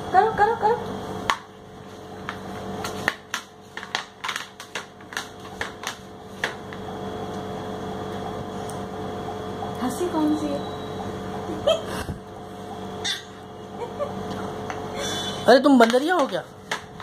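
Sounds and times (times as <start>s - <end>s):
faint steady hum: 0.0s - 15.8s.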